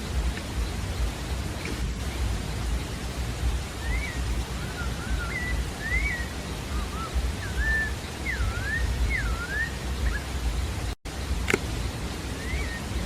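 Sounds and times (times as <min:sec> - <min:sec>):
mockingbird singing: 0:00.0 - 0:11.0, 0:12.1 - 0:13.0
steady low rumble: 0:00.0 - 0:13.0.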